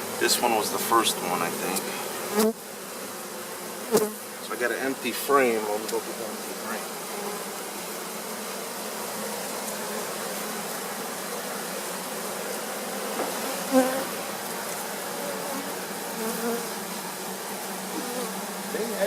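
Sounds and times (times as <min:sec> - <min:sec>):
honey bees buzzing: 0:00.0 - 0:19.0.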